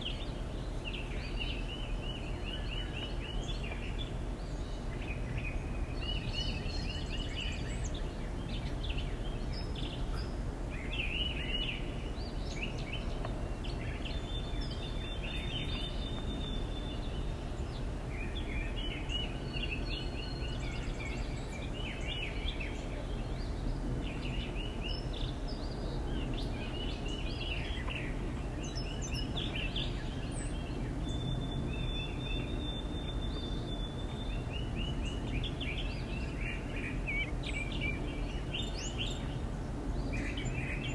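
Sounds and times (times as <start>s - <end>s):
low background rumble: 0.0s - 40.9s
small birds chirping: 0.0s - 40.9s.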